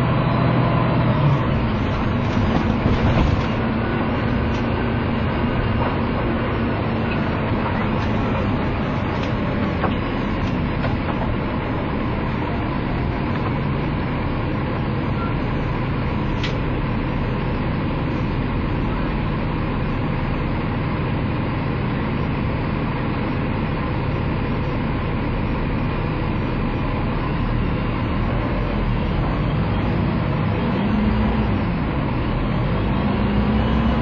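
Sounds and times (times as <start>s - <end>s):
bus diesel engine idling: 0.0s - 34.0s.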